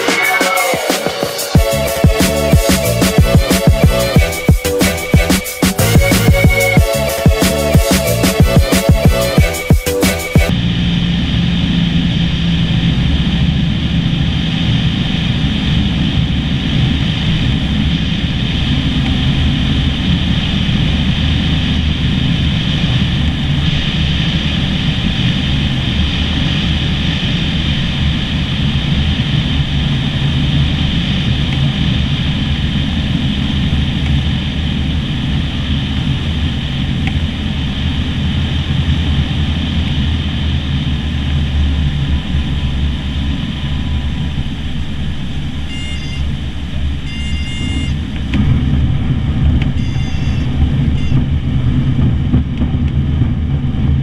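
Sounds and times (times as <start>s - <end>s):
airplane engine and propeller: 0.0s - 54.0s.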